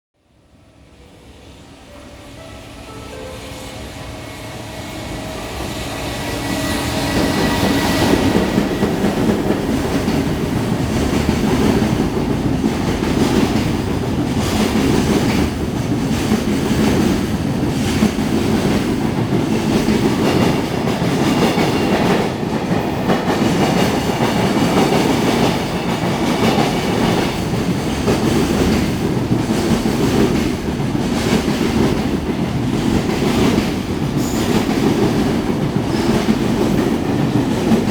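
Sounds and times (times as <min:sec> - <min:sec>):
freight train rumble: 0:00.3 - 0:37.9.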